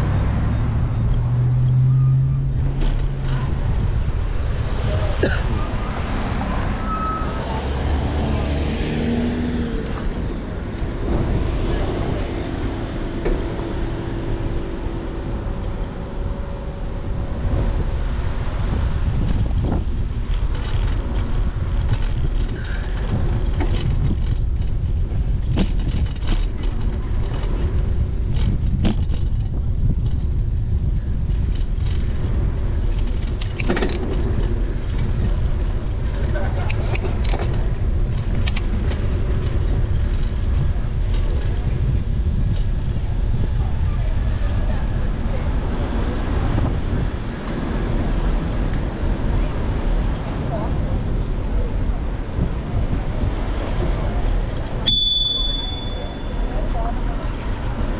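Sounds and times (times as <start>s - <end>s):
bicycle rattling over bumps: 0.0s - 6.4s, 10.0s - 57.9s
car engine hum: 0.0s - 57.9s
road rumble: 0.0s - 57.9s
wind noise on microphone: 0.0s - 57.9s.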